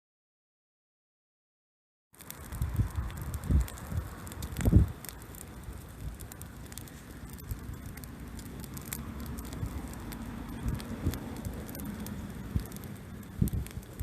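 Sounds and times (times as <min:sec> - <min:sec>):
bonfire crackling and popping: 0:02.2 - 0:14.0
low fire rumble: 0:02.2 - 0:14.0.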